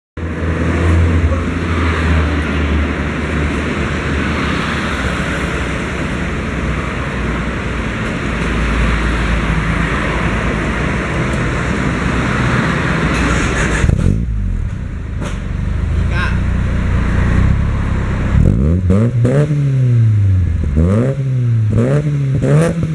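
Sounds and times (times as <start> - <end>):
car exhaust droning: 0.2 - 22.9.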